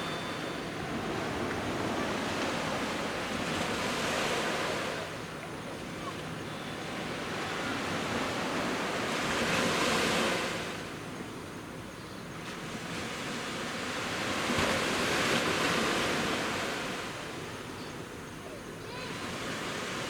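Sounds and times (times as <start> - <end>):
sea waves breaking on beach: 0.0 - 10.8, 12.4 - 17.5, 18.8 - 20.0.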